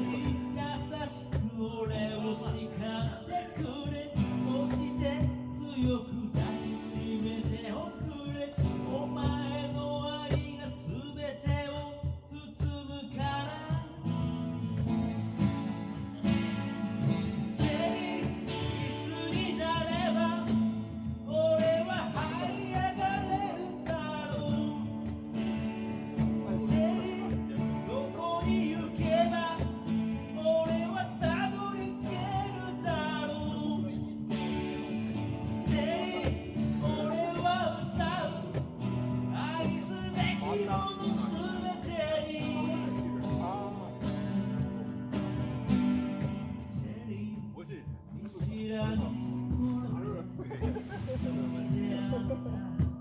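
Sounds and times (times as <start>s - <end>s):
man singing a ballad: 0.0s - 14.7s, 15.8s - 45.1s, 46.4s - 53.0s
acoustic guitar strumming: 0.0s - 53.0s
cajon beat: 0.0s - 53.0s.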